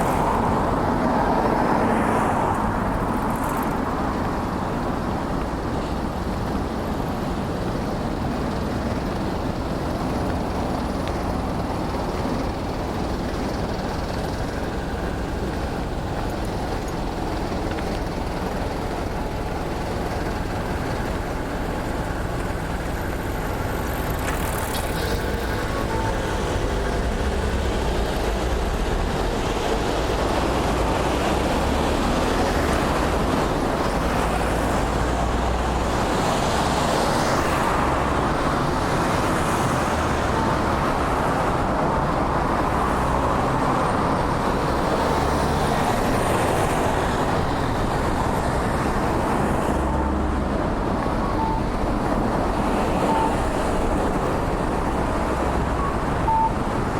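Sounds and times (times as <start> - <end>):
road traffic passing: 0.0 - 56.9.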